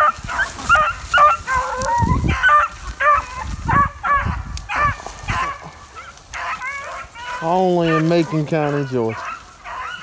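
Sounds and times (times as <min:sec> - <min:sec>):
beagles baying: 0:00.0 - 0:10.0.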